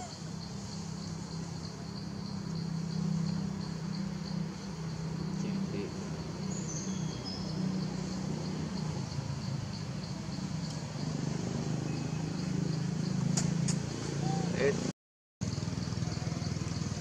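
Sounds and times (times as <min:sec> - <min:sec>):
insects chirping: 0:00.0 - 0:14.8, 0:15.4 - 0:17.0.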